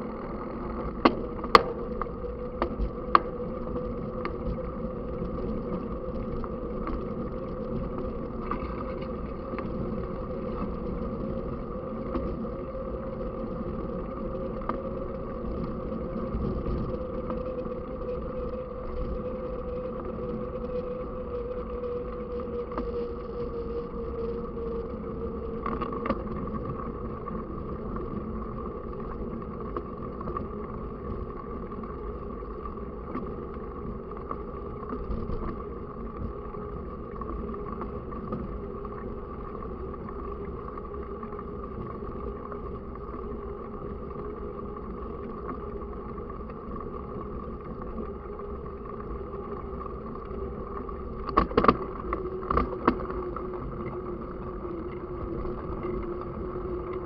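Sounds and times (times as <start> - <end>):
bike tyres rolling hum: 0.0 - 57.0.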